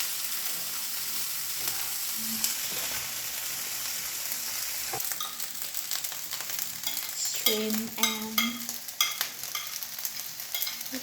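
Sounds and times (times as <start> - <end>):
rice sizzling in a hot pan: 0.0 - 11.0.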